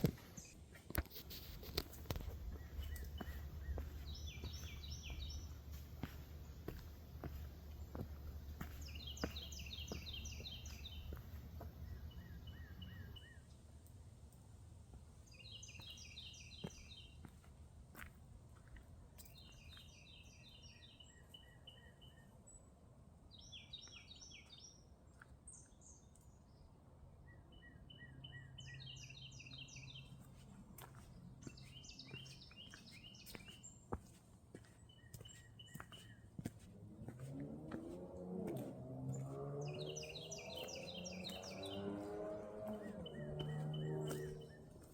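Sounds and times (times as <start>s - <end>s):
songbird singing: 0.0s - 14.0s, 15.0s - 44.9s.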